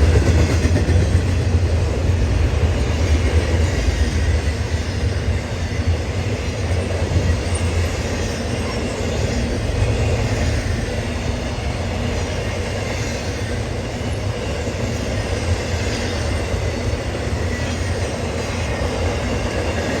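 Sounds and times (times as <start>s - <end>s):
freight train cars rumbling and rattling: 0.0s - 20.0s.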